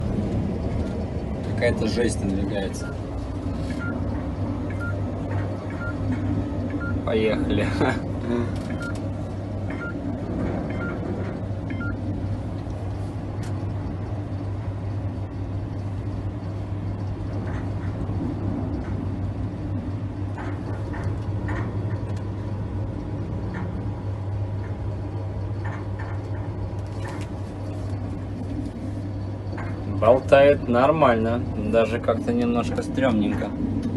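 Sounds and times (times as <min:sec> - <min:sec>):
low hum and rumble: 0:00.0 - 0:33.9.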